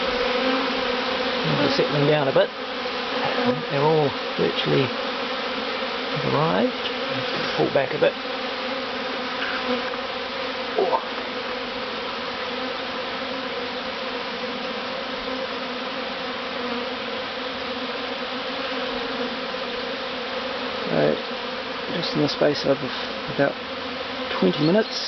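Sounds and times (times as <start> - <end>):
bee buzzing past: 0.0 - 25.0
bee swarm buzzing: 0.0 - 25.0.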